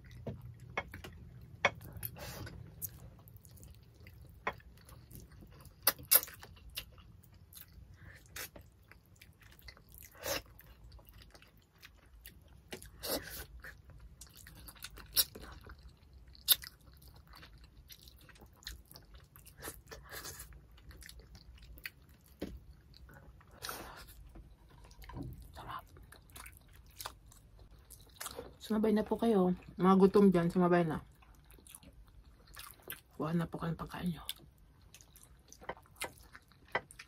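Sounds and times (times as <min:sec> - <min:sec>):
people chewing: 0:00.0 - 0:28.6, 0:31.2 - 0:33.0, 0:34.3 - 0:37.0.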